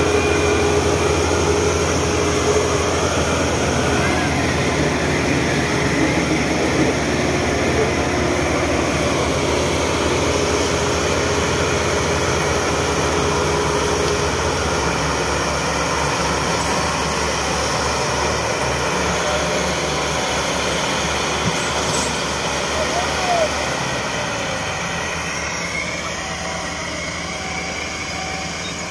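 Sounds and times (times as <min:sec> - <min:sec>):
diesel tractor engine running: 0:00.0 - 0:28.9.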